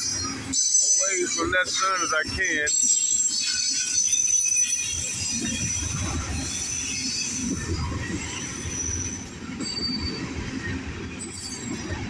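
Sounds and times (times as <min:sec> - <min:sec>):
high-pitched wheel squeal: 0:00.0 - 0:10.4
train wheels rumbling on rails: 0:00.0 - 0:12.0.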